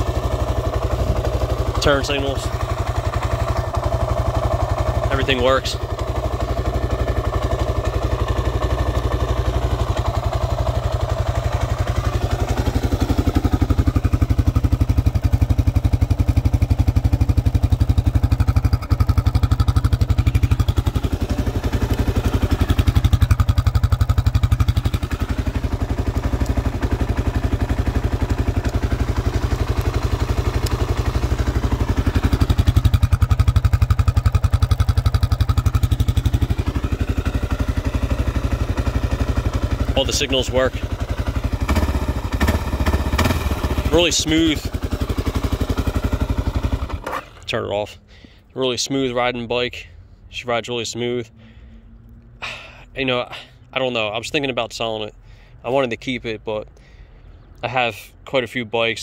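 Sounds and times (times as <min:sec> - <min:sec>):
motorcycle engine idling: 0:00.0 - 0:48.5.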